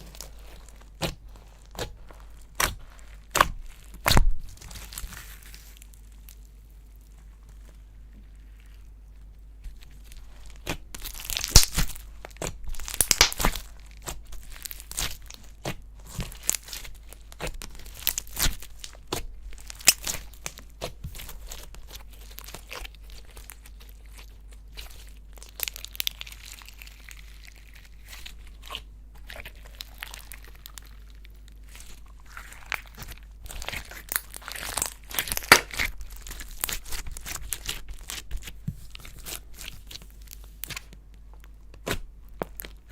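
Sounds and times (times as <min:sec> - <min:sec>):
slime crackling and popping: 0:00.0 - 0:07.2, 0:09.7 - 0:42.9.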